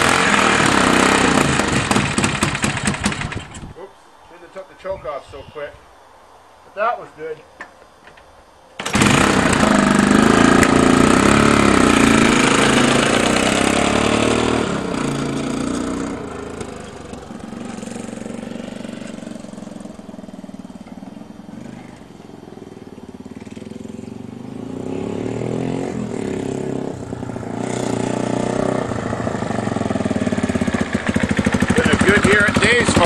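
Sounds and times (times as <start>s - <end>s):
motorcycle engine starting and running: 0.0s - 3.8s, 8.8s - 33.0s.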